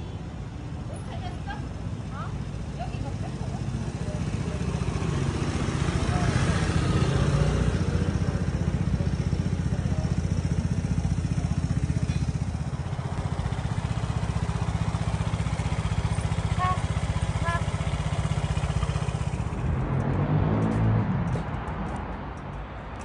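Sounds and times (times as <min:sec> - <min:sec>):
scooter engine idling: 0:00.2 - 0:19.7.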